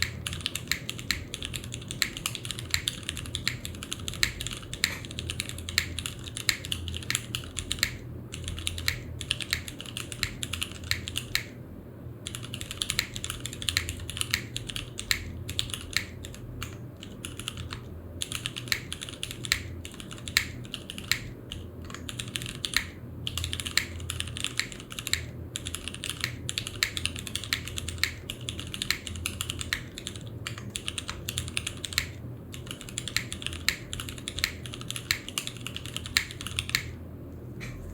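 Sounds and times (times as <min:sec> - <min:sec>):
mechanical keyboard typing: 0:00.0 - 0:11.6, 0:12.3 - 0:37.0
low steady hum: 0:00.0 - 0:37.9.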